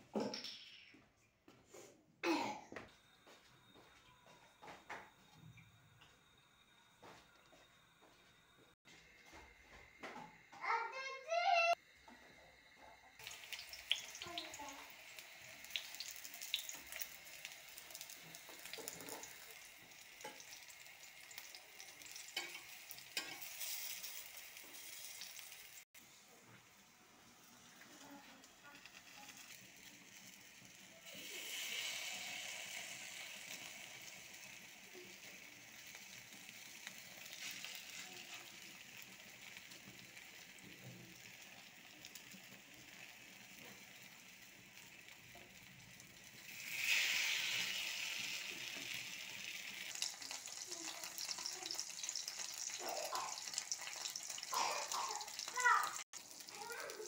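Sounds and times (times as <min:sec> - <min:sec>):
eggplant slices sizzling in oil: 0:03.0 - 0:57.0.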